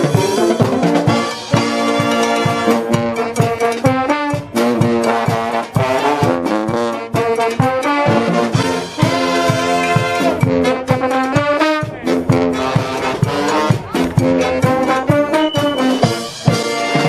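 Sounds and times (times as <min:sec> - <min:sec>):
steady drum beat: 0:00.0 - 0:17.0
trombones and trumpets: 0:00.0 - 0:17.0.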